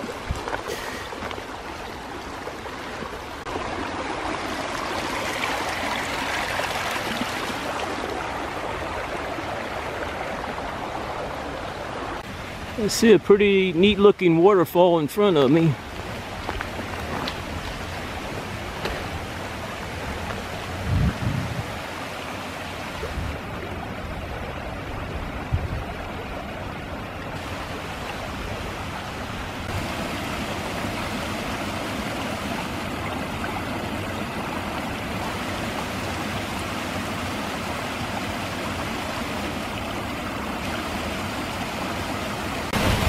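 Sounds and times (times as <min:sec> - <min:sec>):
water splashing roar: 0:00.0 - 0:13.2, 0:15.1 - 0:43.0.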